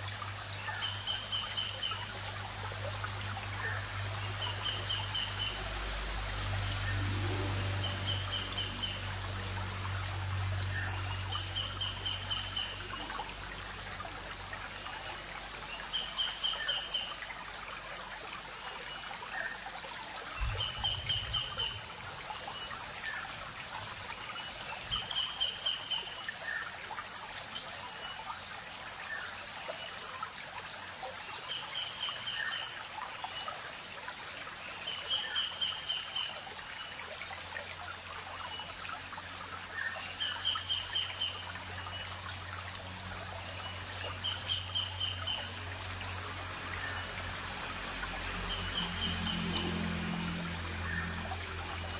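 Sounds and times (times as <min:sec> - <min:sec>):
stream trickling over stones: 0:00.0 - 0:51.9.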